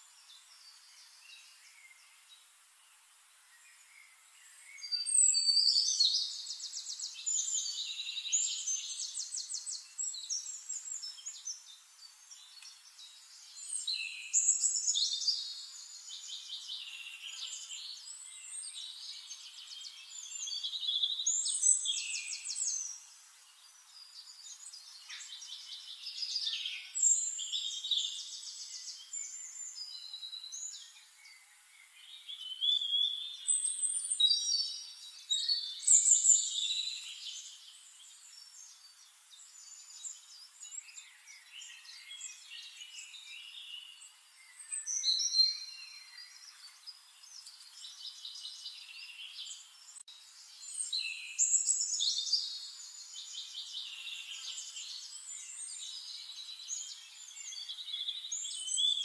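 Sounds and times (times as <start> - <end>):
songbirds singing trilled phrases: 0.0 - 59.0.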